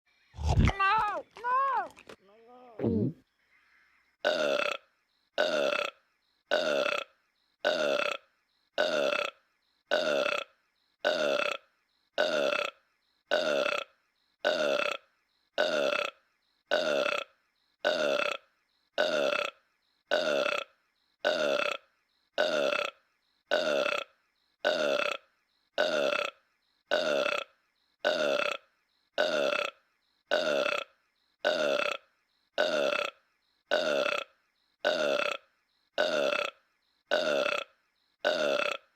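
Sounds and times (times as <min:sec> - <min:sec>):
cartoon burp: 0:02.8 - 0:03.2, 0:04.2 - 0:38.9.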